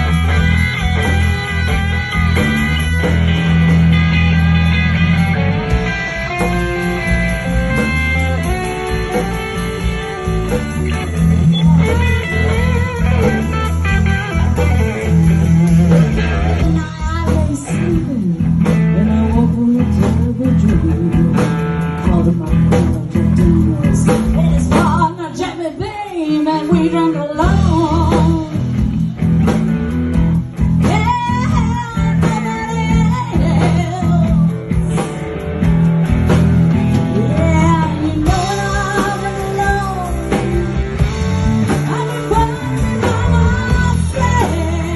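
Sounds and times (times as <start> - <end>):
live blues-rock band playing: 0.0 - 44.9.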